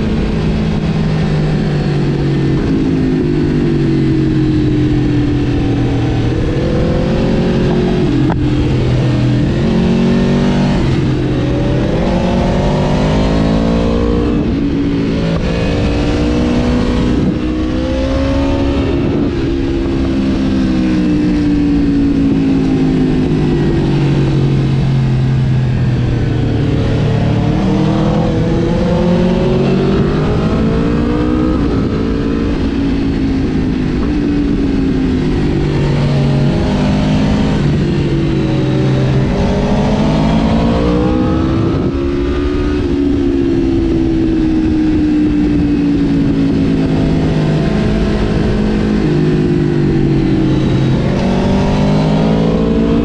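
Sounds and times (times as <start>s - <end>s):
motorcycle engine revving: 0.0s - 53.0s
wind rush: 0.0s - 53.0s.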